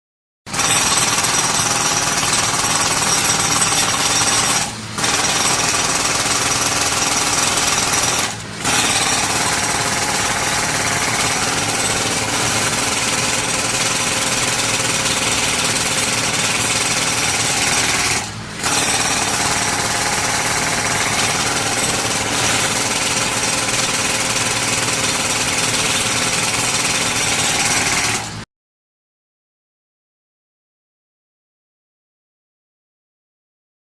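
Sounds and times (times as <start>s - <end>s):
jackhammer hammering: 0.5s - 28.4s.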